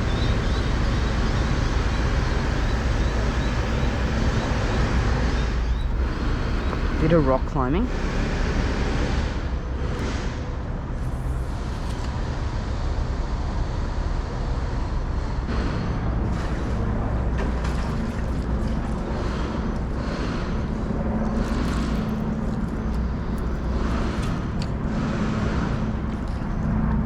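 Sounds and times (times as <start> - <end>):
hum: 0.0 - 27.0
low engine rumble: 0.0 - 27.0.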